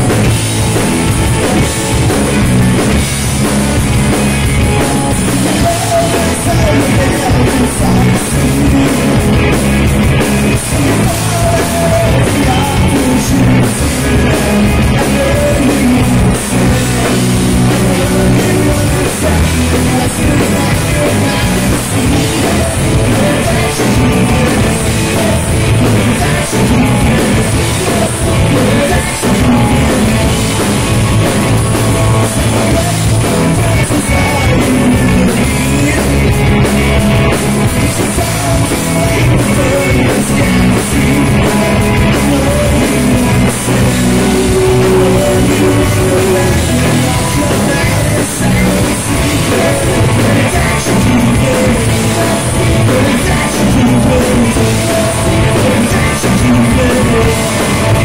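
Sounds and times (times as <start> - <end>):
drum kit: 0.0 - 58.0
electric bass: 0.0 - 58.0
electric guitars: 0.0 - 58.0
lead singer: 0.0 - 58.0.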